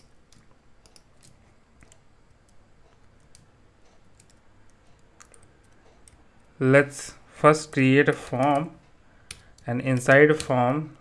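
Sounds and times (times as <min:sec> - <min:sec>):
keyboard and mouse clicks: 0:00.0 - 0:06.5, 0:08.1 - 0:10.7.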